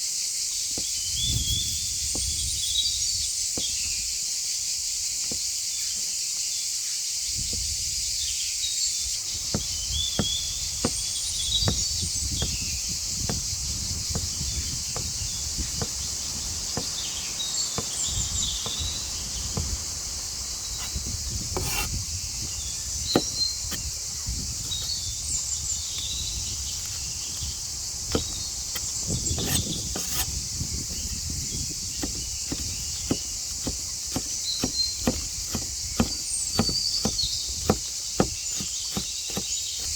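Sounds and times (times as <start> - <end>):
insects buzzing: 0.0 - 39.9
birds chirping: 0.5 - 6.5, 7.3 - 39.9.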